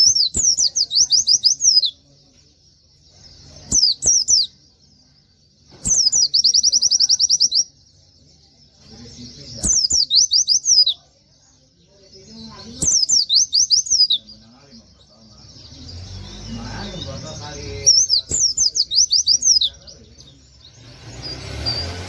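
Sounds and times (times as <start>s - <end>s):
bird singing whistled notes: 0.0s - 22.0s.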